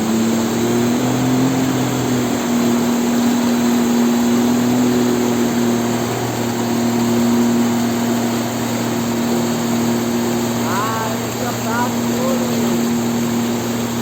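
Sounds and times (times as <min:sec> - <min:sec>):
outboard motor droning: 0:00.0 - 0:14.0.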